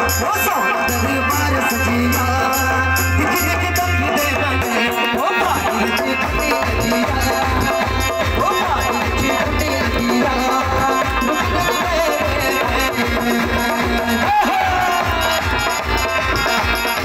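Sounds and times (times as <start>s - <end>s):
folk dance music over pa: 0.0s - 17.0s
man singing into microphone: 0.0s - 17.0s
rattling percussion: 0.0s - 17.0s.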